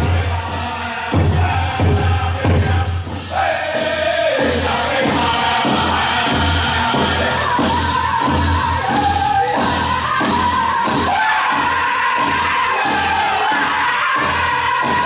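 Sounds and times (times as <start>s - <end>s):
large drum steady beat: 0.0s - 15.0s
men singing high wavering notes: 0.0s - 15.0s.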